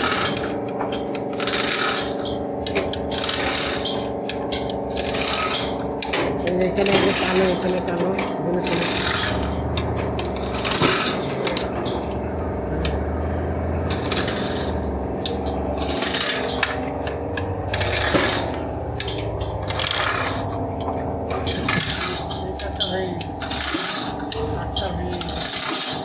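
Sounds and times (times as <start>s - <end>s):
hand tools scraping on metal: 0.0s - 26.0s
steady droning hum: 0.0s - 26.0s.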